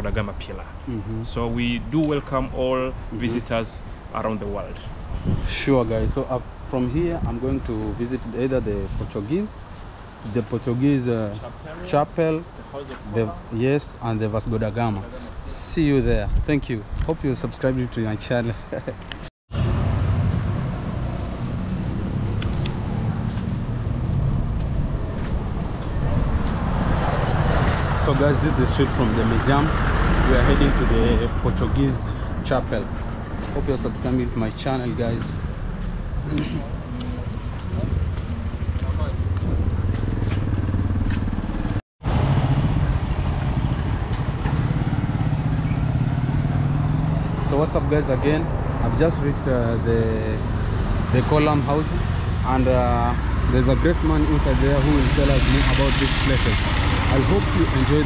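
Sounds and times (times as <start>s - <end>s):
road noise: 0.0s - 58.0s
street traffic rumble: 0.0s - 58.0s.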